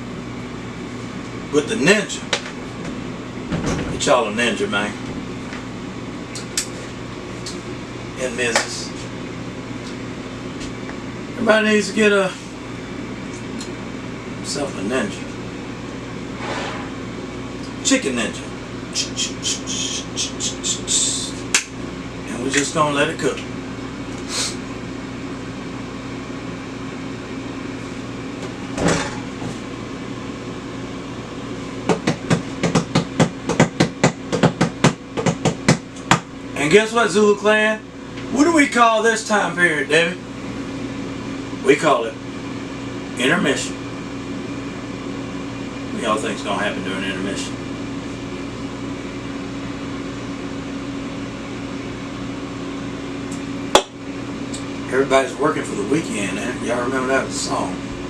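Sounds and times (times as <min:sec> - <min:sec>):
air fryer fan humming: 0:00.0 - 0:58.0.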